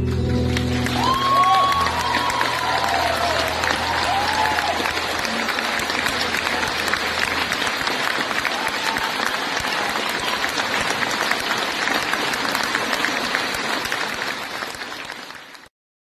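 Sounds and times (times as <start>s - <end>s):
audience applauding: 0.0s - 15.7s.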